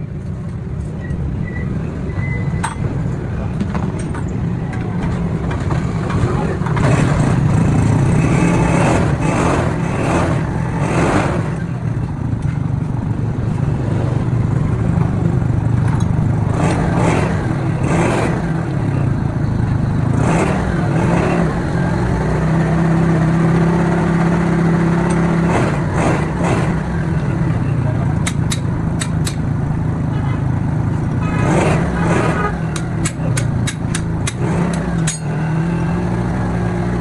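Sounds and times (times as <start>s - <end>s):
vehicle engine droning: 0.0s - 37.0s.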